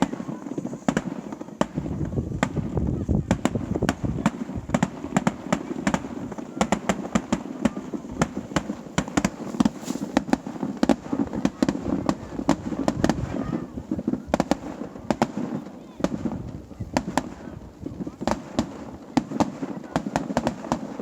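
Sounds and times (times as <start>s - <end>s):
echoing fireworks booms: 0.0s - 21.0s
fireworks bangs and cracks: 0.0s - 21.0s.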